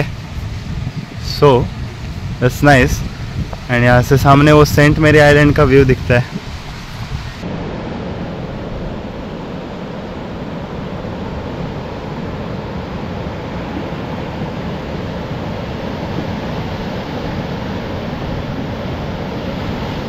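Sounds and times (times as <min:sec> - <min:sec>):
sea surf rushing: 0:00.0 - 0:20.0
wind: 0:00.0 - 0:20.0.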